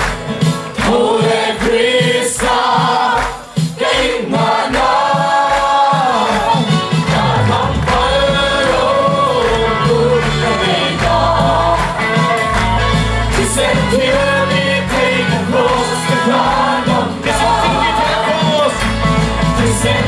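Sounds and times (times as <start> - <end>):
band with drums and bass: 0.0 - 20.0
group singing a worship song: 0.0 - 20.0.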